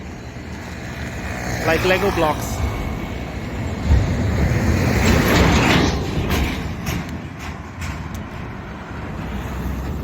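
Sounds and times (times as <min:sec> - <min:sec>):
low road rumble: 0:00.0 - 0:10.0.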